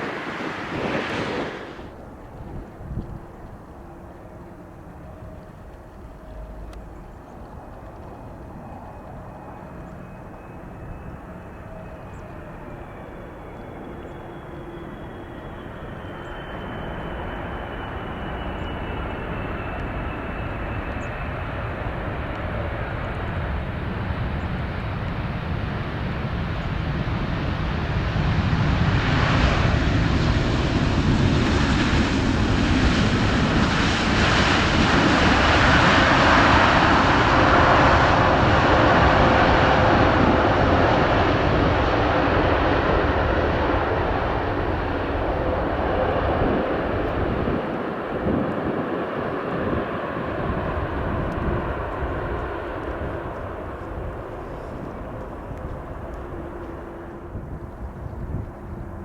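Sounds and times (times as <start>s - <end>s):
jet engines on landing approach: 0.0s - 59.0s.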